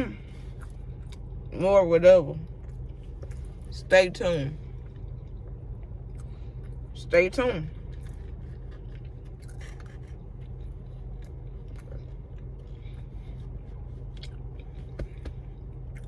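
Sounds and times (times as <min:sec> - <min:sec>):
low hum: 0:00.0 - 0:16.0
person chewing food: 0:00.1 - 0:01.5, 0:02.5 - 0:03.8, 0:04.5 - 0:07.0, 0:07.7 - 0:16.0.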